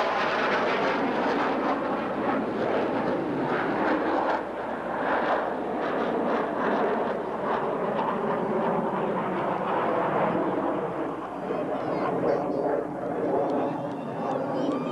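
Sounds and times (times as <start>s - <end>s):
jet engines in flight: 0.0s - 14.9s.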